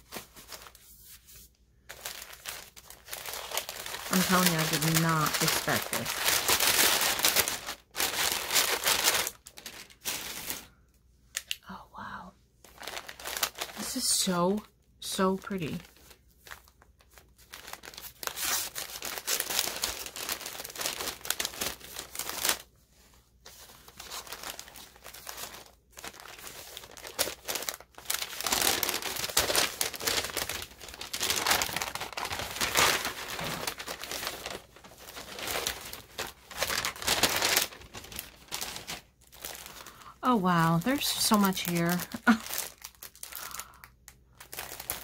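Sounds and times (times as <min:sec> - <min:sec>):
paper wrapping crinkling: 0:00.0 - 0:11.6, 0:12.6 - 0:14.3, 0:15.0 - 0:45.0.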